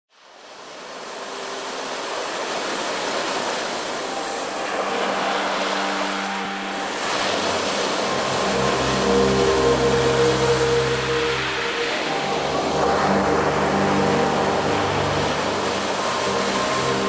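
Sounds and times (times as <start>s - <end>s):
waves breaking on pebble beach: 0.5s - 17.0s.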